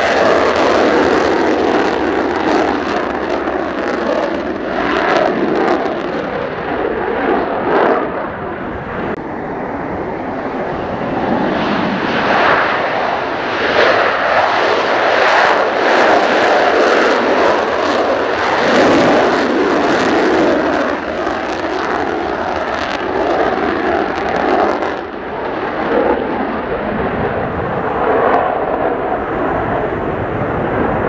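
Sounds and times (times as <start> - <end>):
jet engine roaring at full power: 0.0 - 31.0
wind gusts on microphone: 0.0 - 31.0.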